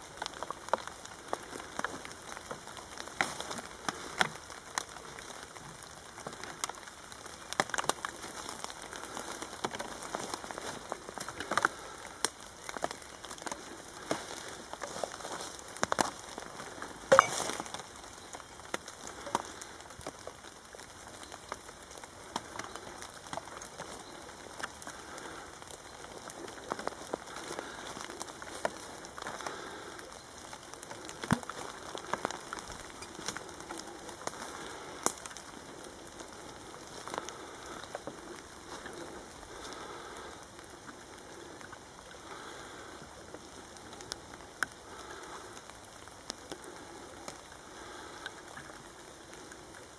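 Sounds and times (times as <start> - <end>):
rain pattering on plastic bags: 0.0 - 49.9.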